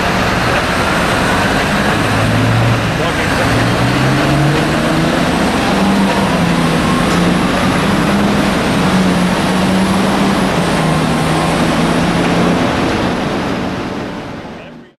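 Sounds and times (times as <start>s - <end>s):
truck diesel engine running: 0.0s - 14.9s.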